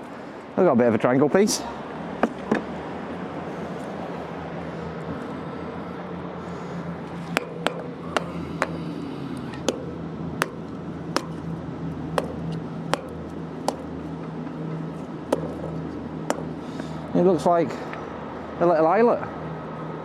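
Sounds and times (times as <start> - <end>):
low hum of road traffic: 0.0 - 20.0.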